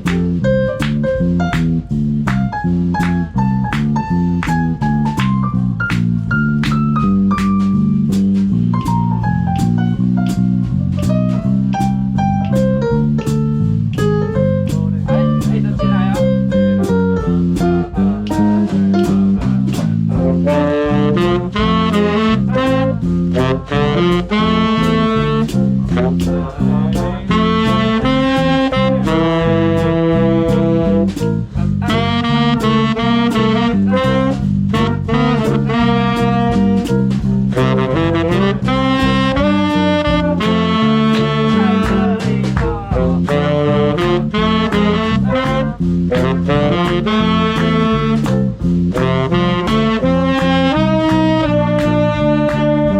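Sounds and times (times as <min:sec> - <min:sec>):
drum strokes: 0:00.0 - 0:52.9
horn section chords: 0:00.0 - 0:52.9
stepping bass line: 0:00.0 - 0:52.9
swing jazz band playing: 0:00.0 - 0:52.9.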